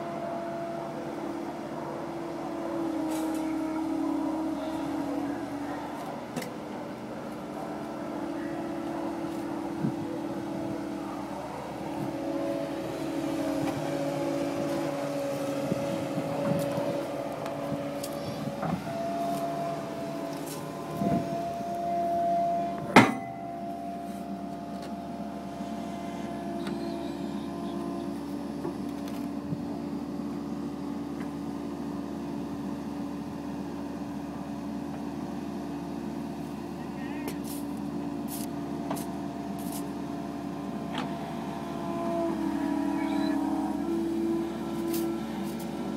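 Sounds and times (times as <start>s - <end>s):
excavator running: 0.0s - 45.9s.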